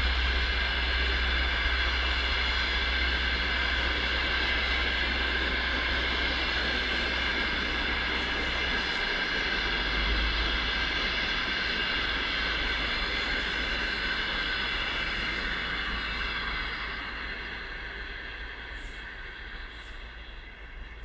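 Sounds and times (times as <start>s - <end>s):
diesel locomotive engine whine: 0.0s - 21.0s
train rumble: 0.0s - 21.0s.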